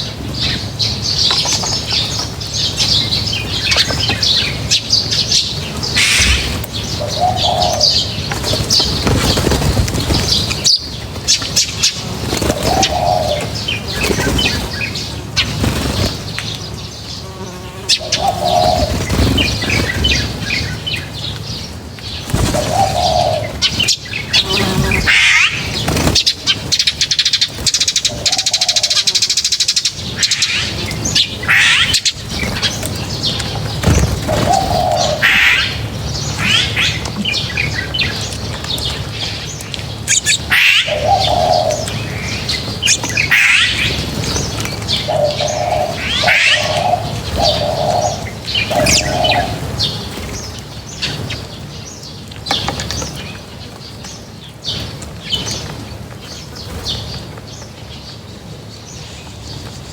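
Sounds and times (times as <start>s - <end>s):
wings fluttering: 0.0s - 54.1s.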